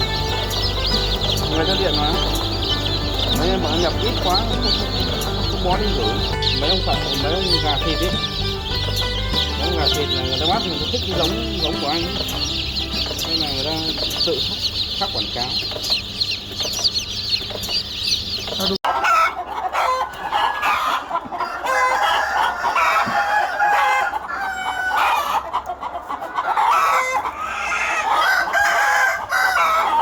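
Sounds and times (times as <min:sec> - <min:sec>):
roosters crowing: 0:00.0 - 0:25.5, 0:26.3 - 0:30.0
chicks chirping: 0:00.0 - 0:30.0
hens clucking: 0:00.0 - 0:30.0.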